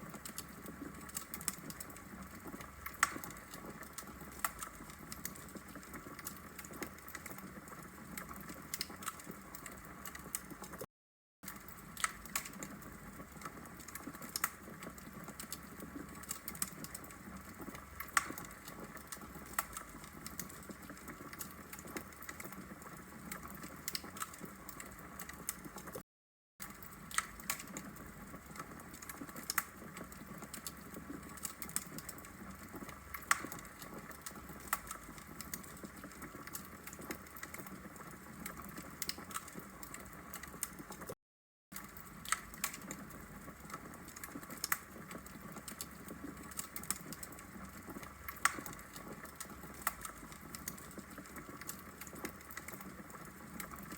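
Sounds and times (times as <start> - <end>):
fire crackling and popping: 0.0 - 26.0, 26.6 - 41.2, 41.8 - 53.9.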